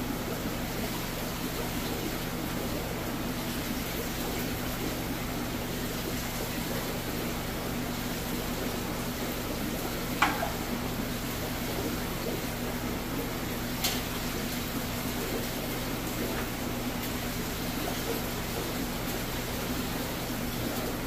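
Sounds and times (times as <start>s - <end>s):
aquarium water bubbling: 0.0s - 21.0s.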